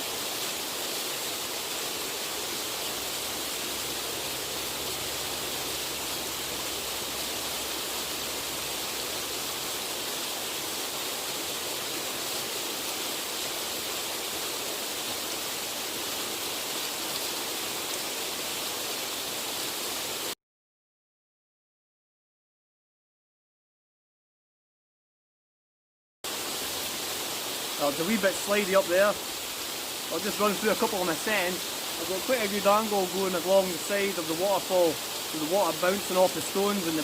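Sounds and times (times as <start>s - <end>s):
waterfall rushing over stones: 0.0s - 20.4s, 26.3s - 37.0s.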